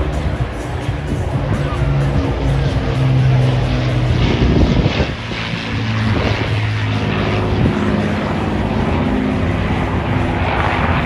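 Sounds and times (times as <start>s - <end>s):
propeller aircraft drone: 0.0s - 11.0s.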